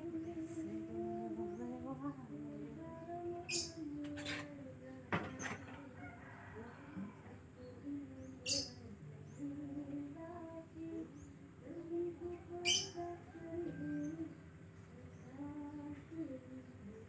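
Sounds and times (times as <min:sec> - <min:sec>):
distant person singing: 0:00.0 - 0:17.0.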